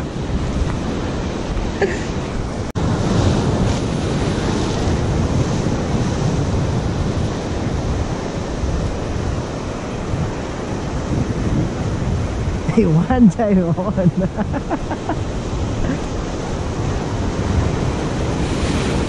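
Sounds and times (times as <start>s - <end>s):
ocean surf breaking on rocks: 0.0s - 19.0s
wind buffeting microphone: 0.0s - 19.0s.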